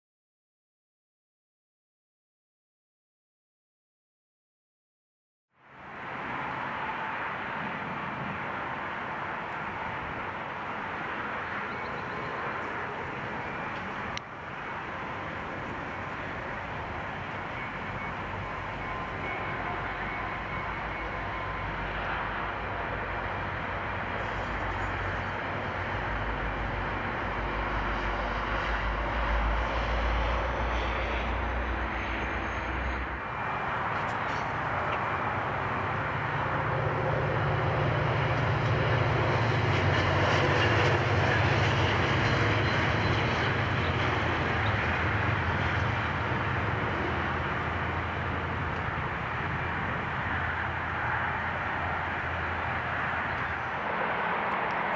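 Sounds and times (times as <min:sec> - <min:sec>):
train engine drone: 0:05.6 - 0:54.9
train rumble: 0:05.8 - 0:54.9.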